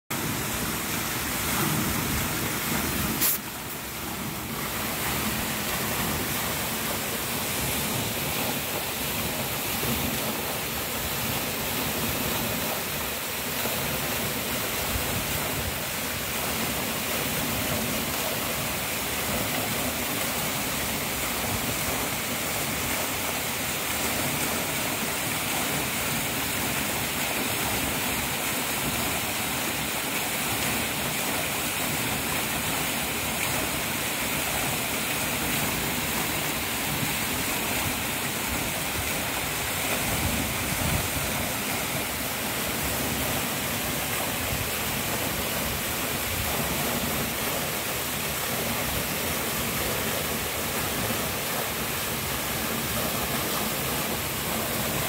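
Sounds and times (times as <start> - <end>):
waterfall rushing: 0.1 - 55.0.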